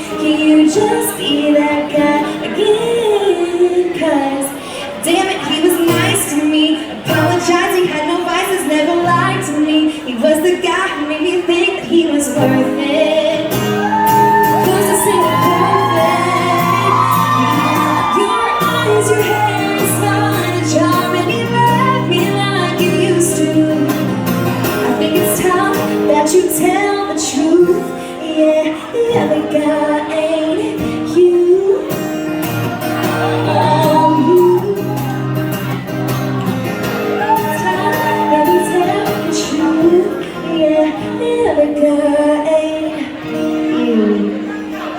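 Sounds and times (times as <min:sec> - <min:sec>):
woman singing: 0:00.0 - 0:35.2, 0:37.2 - 0:44.9.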